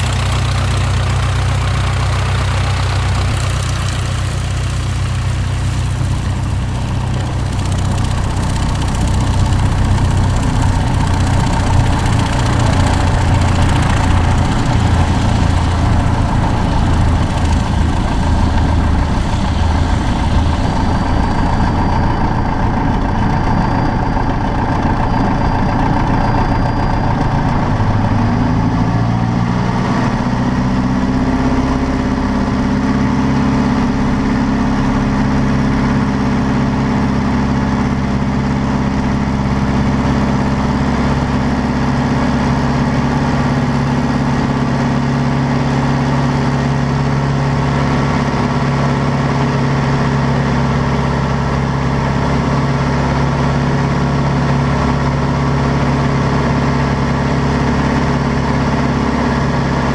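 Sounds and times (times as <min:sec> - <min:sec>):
propeller plane engine at full power: 0:00.0 - 0:59.9.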